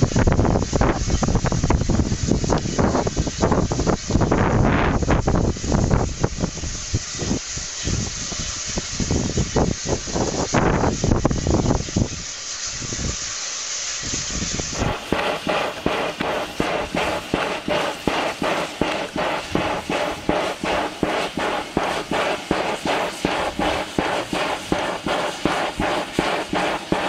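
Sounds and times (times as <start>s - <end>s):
wind buffeting microphone: 0.0s - 13.3s, 14.0s - 27.0s
steam locomotive exhaust beats: 0.0s - 27.0s.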